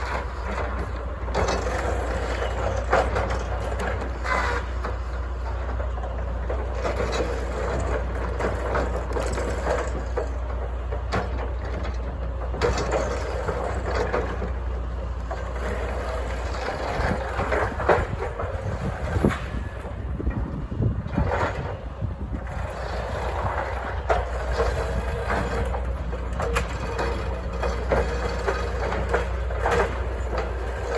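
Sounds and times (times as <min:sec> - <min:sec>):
continuous clatter: 0:00.0 - 0:30.9
delimber engine running: 0:00.0 - 0:30.9.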